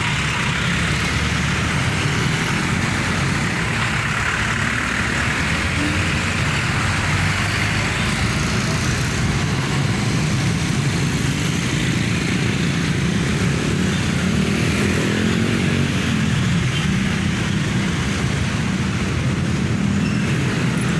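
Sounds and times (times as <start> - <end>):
vehicle engines humming in traffic: 0.0 - 20.9.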